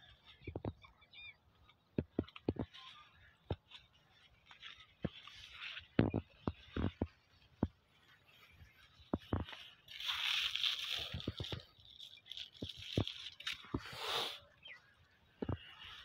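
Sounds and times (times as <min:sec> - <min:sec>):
phone brushing through leaves: 0:01.6 - 0:16.0.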